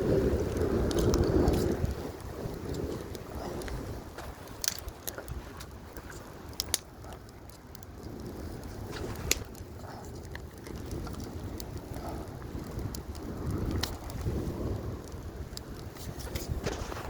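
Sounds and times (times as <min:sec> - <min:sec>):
wind buffeting microphone: 0:00.0 - 0:17.0
sharp clicks and cracks: 0:00.3 - 0:17.0.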